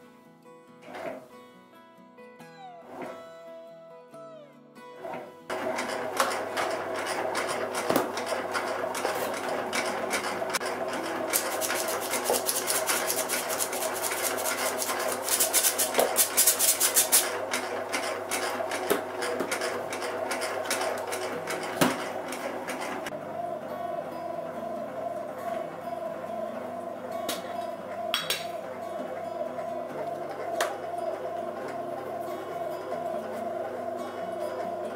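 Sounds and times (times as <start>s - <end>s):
bread machine motor humming: 5.0s - 34.9s.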